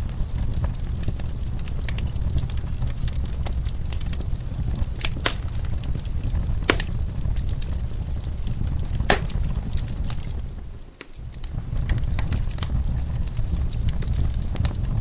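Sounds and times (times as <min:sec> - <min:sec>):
fire pops: 0:00.0 - 0:15.0
low rumble of flames: 0:00.0 - 0:15.0
wood fire crackling: 0:00.0 - 0:15.0.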